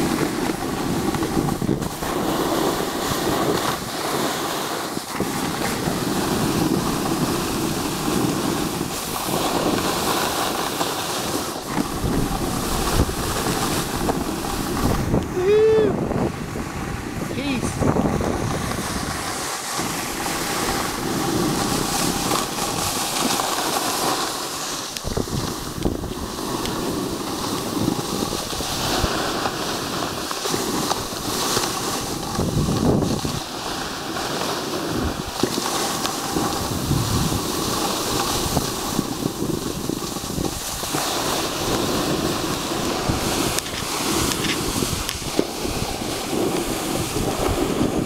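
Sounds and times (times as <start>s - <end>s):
snowboard scraping across snow: 0.0s - 48.0s
wind buffeting microphone: 0.0s - 48.0s.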